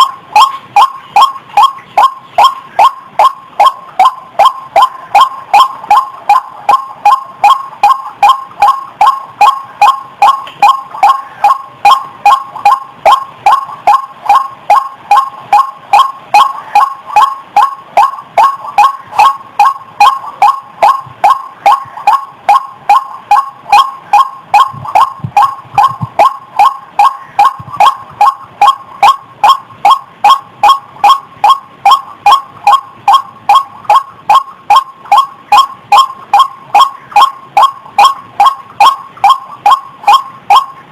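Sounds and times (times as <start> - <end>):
waterhen calling: 0.0 - 40.8.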